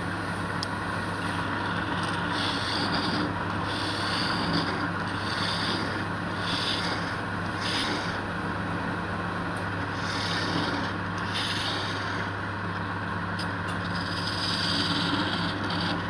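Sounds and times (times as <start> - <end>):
wood lathe motor hum: 0.0 - 16.0
tool cutting spinning wood: 1.0 - 8.6, 9.7 - 16.0.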